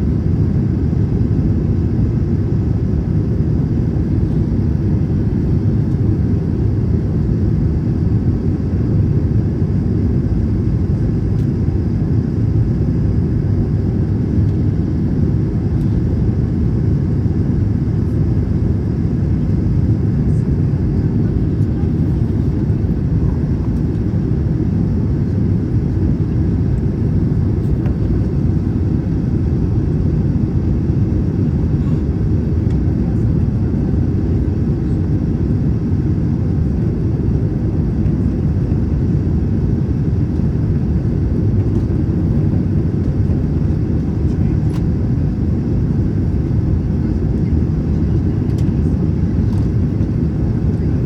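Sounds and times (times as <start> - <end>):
airliner cabin rumble: 0.0 - 51.0.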